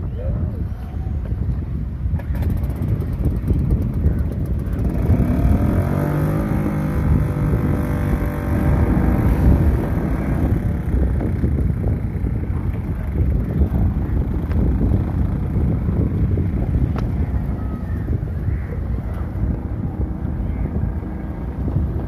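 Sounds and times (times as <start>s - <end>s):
wind rumbling on microphone: 0.0s - 22.0s
boat engine: 0.6s - 22.0s.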